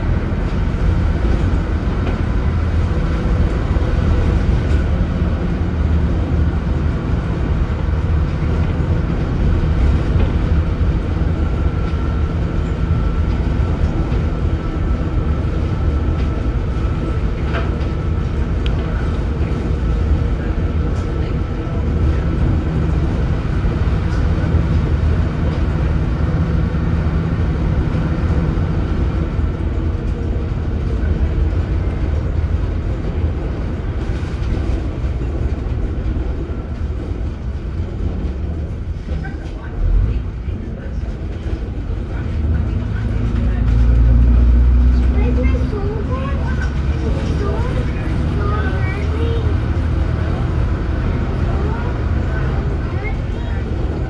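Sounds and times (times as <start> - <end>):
bus diesel engine running: 0.0 - 54.0
road noise: 0.0 - 54.0.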